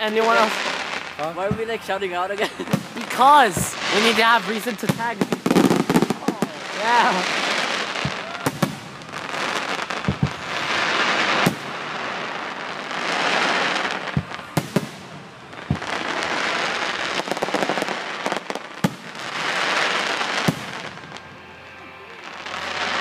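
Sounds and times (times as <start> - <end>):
firework shells bursting: 0.0 - 21.3
firework crackling: 0.0 - 23.0.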